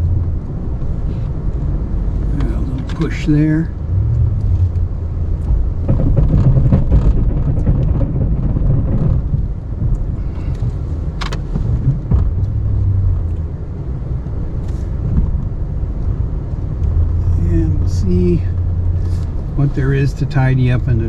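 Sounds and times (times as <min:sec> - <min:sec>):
pickup engine rumbling under load: 0:00.0 - 0:21.0.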